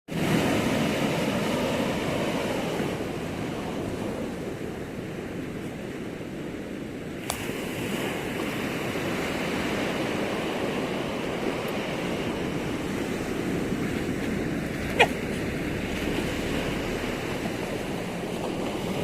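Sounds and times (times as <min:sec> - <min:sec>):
sea waves washing: 0:00.1 - 0:19.0.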